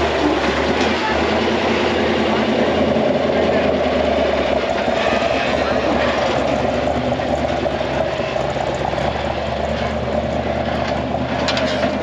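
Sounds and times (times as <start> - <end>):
buggy engine running: 0.0 - 12.0.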